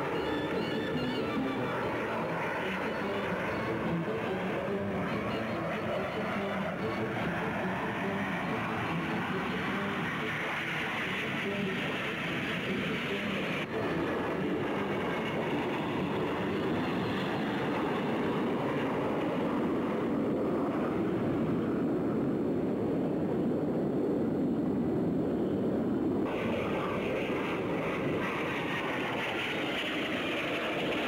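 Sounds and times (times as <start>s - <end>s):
jet engines flying past: 0.0s - 31.0s.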